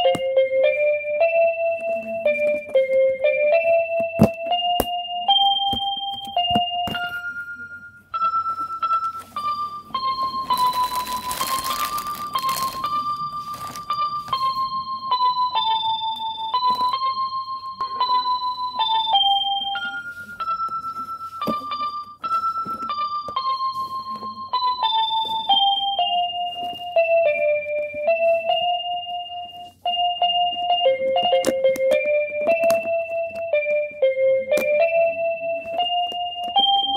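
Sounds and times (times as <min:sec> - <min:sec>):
slow electric piano melody: 0:00.0 - 0:36.9.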